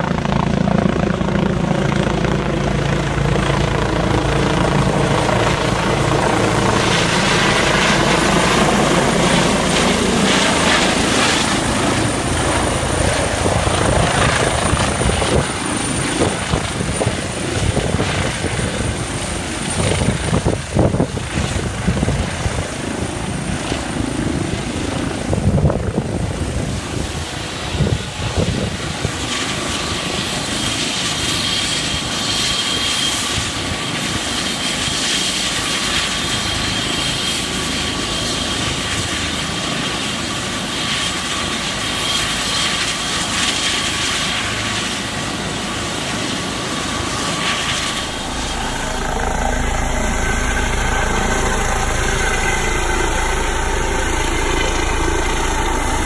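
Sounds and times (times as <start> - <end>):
helicopter rotor downwash rumbling: 0.0 - 56.0
helicopter turbine whine: 0.0 - 56.0.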